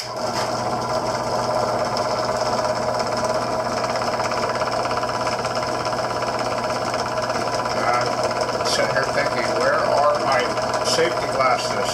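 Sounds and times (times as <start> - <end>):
electric drill cutting plastic: 0.0 - 11.9.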